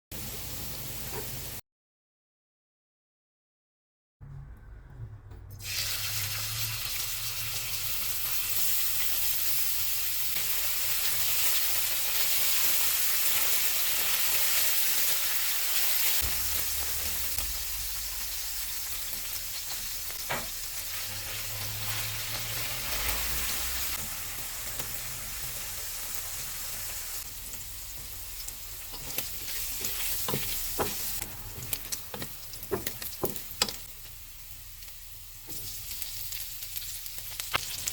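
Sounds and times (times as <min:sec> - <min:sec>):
food sizzling in a pan: 0:00.2 - 0:01.6, 0:05.6 - 0:37.9.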